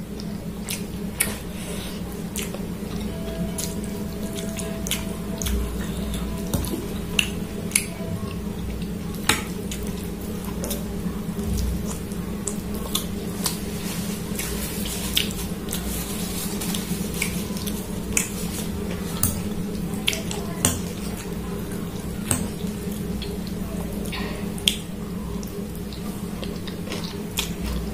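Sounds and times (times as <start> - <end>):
low hum: 0.0 - 27.9
wet eating sounds: 0.0 - 27.9.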